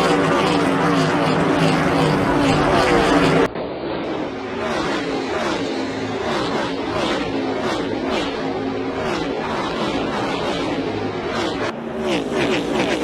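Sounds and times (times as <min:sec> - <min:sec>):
race cars passing: 0:00.0 - 0:13.0
steady engine sound: 0:00.0 - 0:13.0.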